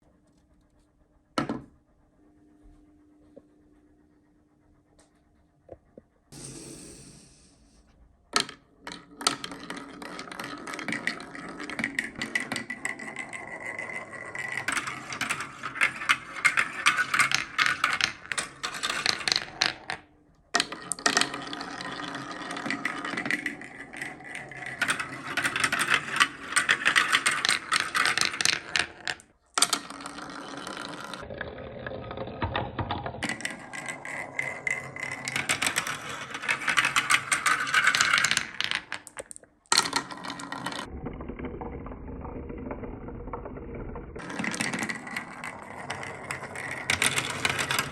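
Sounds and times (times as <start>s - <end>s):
marbles rattling down marble run: 8.4s - 47.9s.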